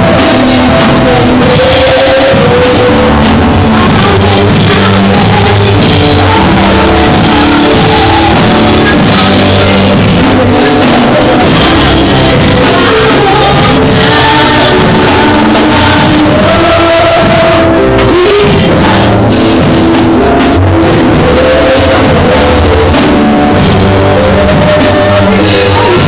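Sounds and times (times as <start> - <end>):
drum kit: 0.0 - 26.0
loud band music: 0.0 - 26.0
person singing: 0.0 - 26.0.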